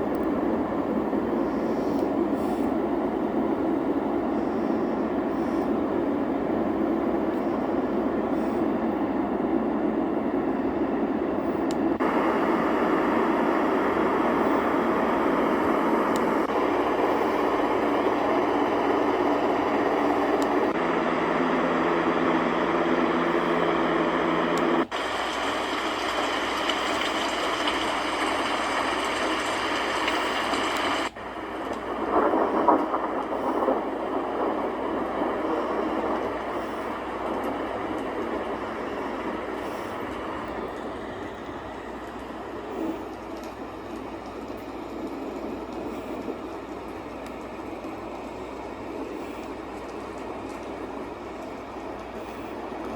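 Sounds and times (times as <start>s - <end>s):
sound machine ambient noise: 0.0s - 52.9s.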